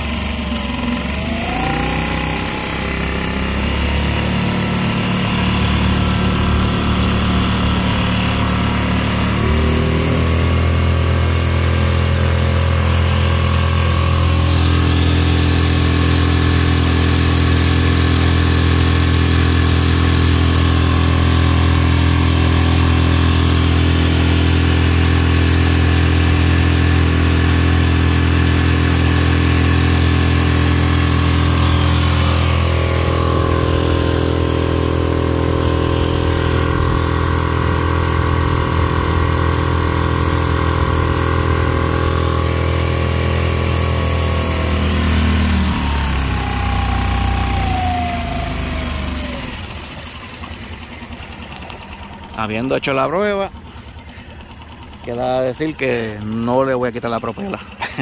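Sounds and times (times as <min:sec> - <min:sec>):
water rushing past hull: 0:00.0 - 0:52.4
outboard motor running: 0:00.0 - 0:58.0.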